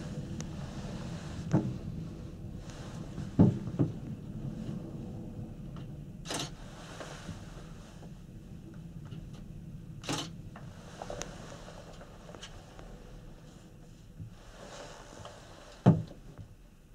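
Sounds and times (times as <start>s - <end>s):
gondola cabin low rumble: 0.0s - 16.9s.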